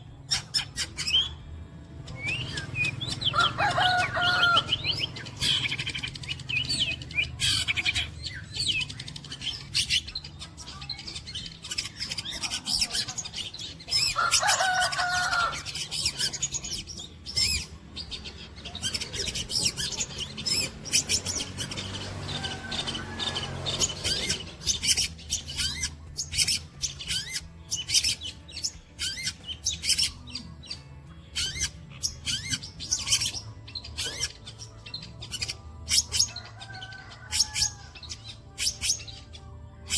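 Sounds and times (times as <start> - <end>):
shrike singing chattering song: 0.0 - 39.9.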